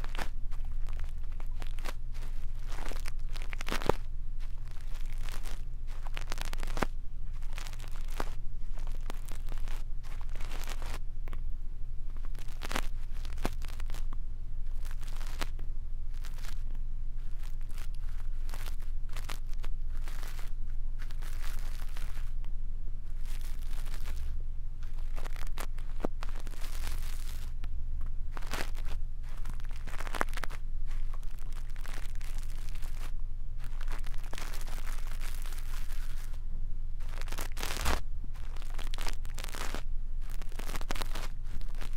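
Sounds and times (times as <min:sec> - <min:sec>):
brush scratching on microphone: 0:00.0 - 0:11.0, 0:12.1 - 0:14.1, 0:14.7 - 0:22.4, 0:23.1 - 0:27.6, 0:28.3 - 0:36.4, 0:37.0 - 0:41.9
steady low hum: 0:00.0 - 0:41.9.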